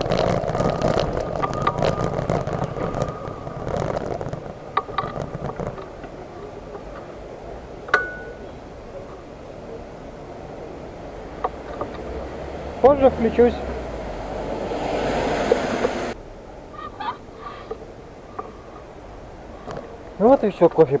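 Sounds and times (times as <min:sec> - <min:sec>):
street background noise: 0:00.0 - 0:21.0.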